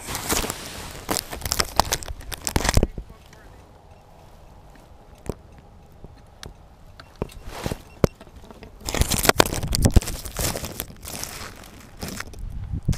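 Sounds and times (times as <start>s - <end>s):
dry grass crunching and rustling: 0.0s - 6.4s, 7.4s - 12.9s.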